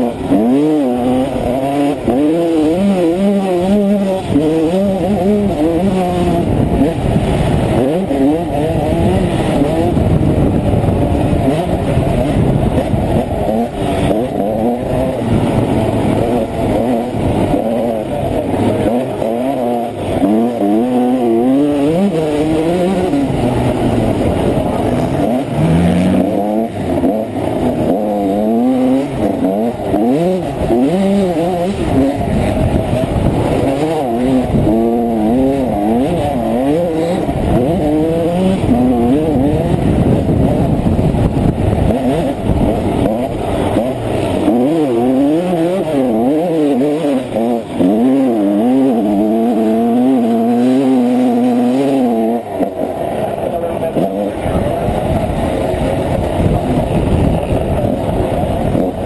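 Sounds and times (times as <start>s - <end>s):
motocross engine revving: 0.0s - 59.0s.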